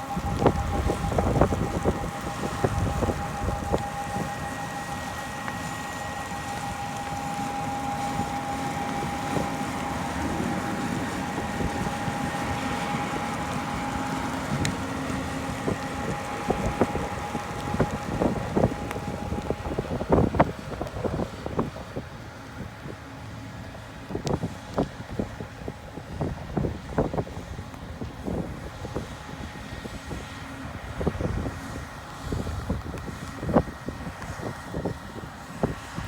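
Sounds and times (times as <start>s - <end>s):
combine harvester whining: 0.0s - 36.0s
wind buffeting microphone: 0.0s - 36.0s.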